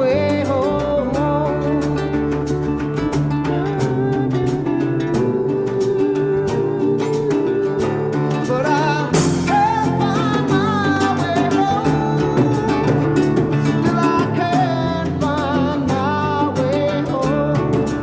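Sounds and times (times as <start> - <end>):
drums with steady beat: 0.0 - 18.0
person singing: 0.0 - 18.0
strummed guitar: 0.0 - 18.0.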